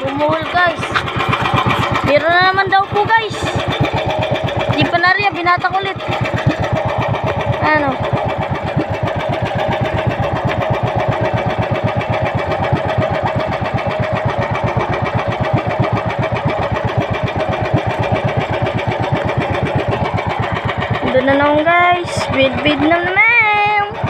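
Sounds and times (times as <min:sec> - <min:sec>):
boat engine chugging: 0:00.0 - 0:24.0.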